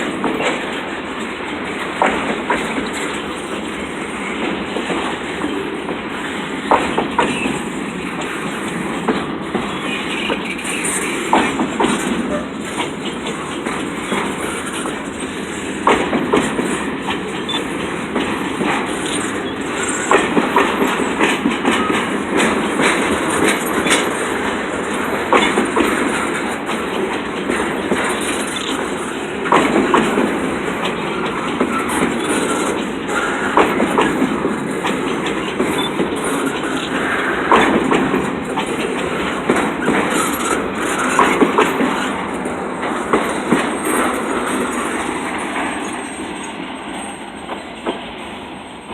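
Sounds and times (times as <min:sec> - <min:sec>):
train wheels rumbling on rail: 0:00.0 - 0:48.9
wheels clanking over rail joints: 0:00.0 - 0:48.9.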